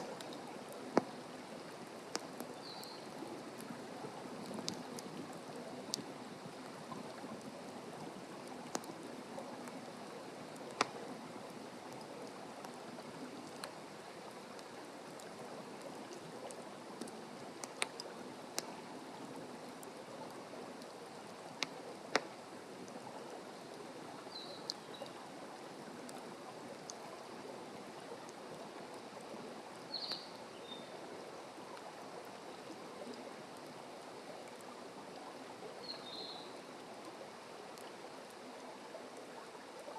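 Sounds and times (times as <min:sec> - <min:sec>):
campfire crackling and hissing: 0:00.0 - 0:39.9.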